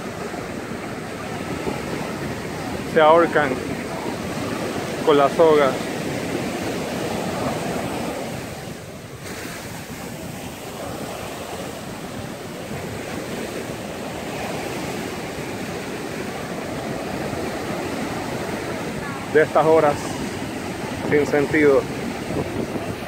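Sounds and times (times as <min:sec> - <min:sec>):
ocean surf washing onto beach: 0:00.0 - 0:23.0
wind on microphone: 0:00.0 - 0:23.0.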